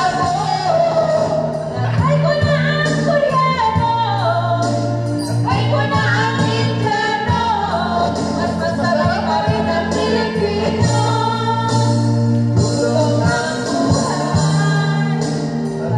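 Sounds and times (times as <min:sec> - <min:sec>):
woman singing into microphone: 0:00.0 - 0:15.9.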